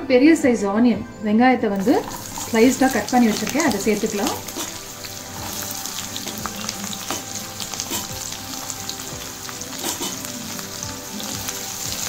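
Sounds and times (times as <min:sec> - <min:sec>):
onion sizzling in oil: 0:01.8 - 0:12.0.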